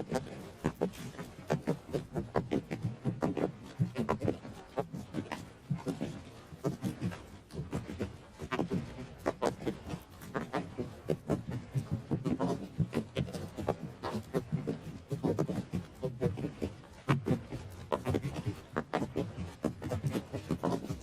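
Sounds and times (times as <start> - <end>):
galloping horse hoofbeats: 0.0 - 21.0.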